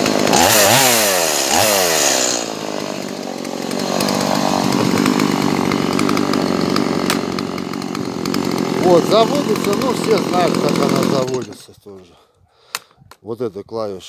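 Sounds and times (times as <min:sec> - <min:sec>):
chainsaw revving and idling: 0:00.0 - 0:11.8.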